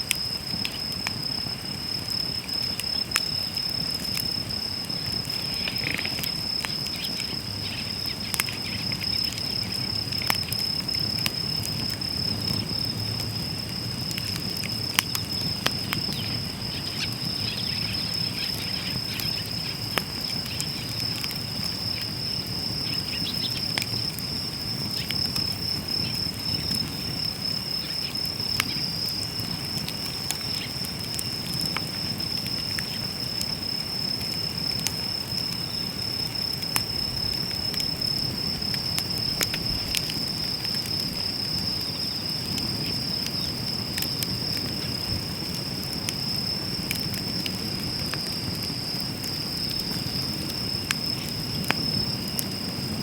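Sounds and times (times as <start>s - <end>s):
high insect trill: 0.0s - 53.0s
wood fire crackling: 0.0s - 53.0s.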